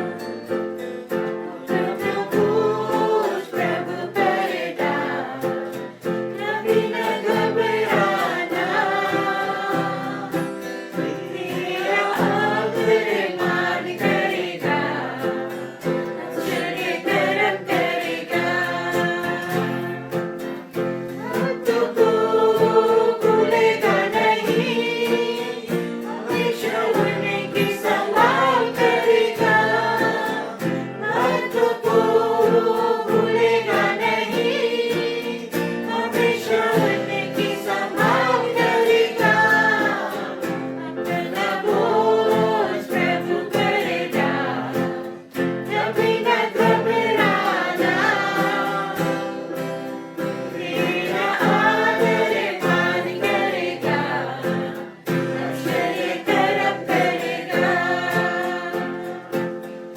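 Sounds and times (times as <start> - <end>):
group singing worship song: 0.0 - 59.8
instrumental accompaniment: 0.0 - 59.9.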